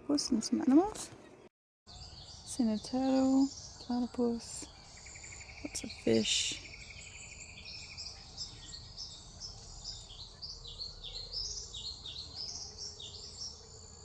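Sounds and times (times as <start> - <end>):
birds calling: 1.9 - 14.0.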